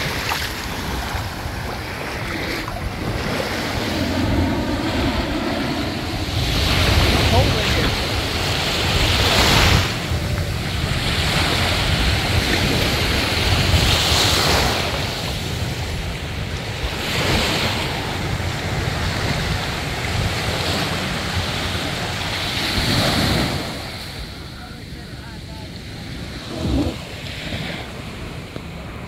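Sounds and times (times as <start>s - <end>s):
wind buffeting microphone: 0.0s - 24.5s, 26.0s - 29.0s.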